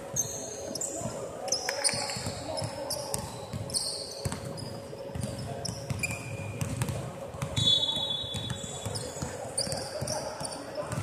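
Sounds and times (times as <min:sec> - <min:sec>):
players' voices echoing: 0:00.0 - 0:11.0
sneakers squeaking on floor: 0:00.1 - 0:11.0.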